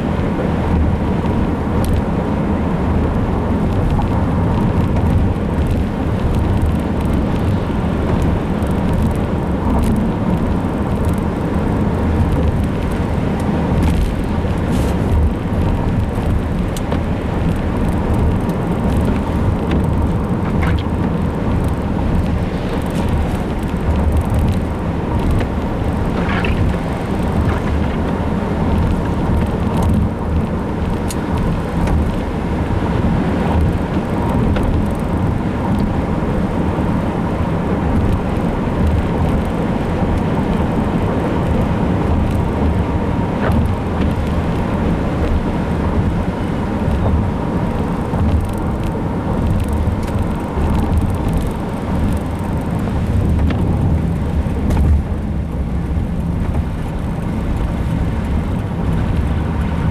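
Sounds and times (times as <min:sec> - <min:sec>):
road noise: 0:00.0 - 0:59.9
vehicle engine rumble: 0:00.0 - 0:59.9.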